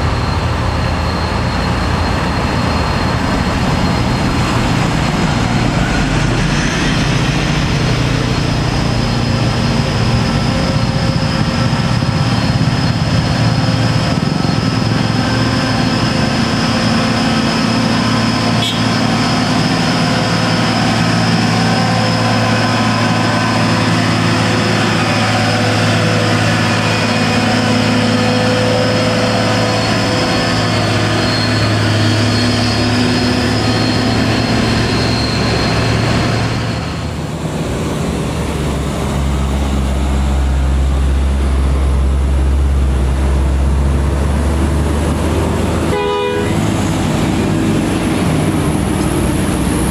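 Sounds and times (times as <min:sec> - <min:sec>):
diesel truck engine under load: 0:00.0 - 0:46.0, 0:46.6 - 0:49.9.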